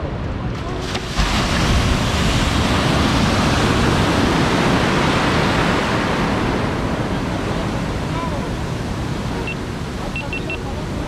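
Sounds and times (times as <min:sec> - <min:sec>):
ocean surf breaking: 0:00.4 - 0:11.0.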